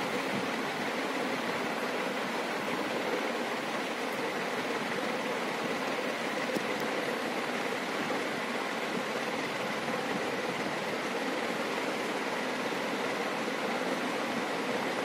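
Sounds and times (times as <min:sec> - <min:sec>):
faint steady hum: 0:00.0 - 0:15.0
fan whooshing: 0:00.0 - 0:15.0.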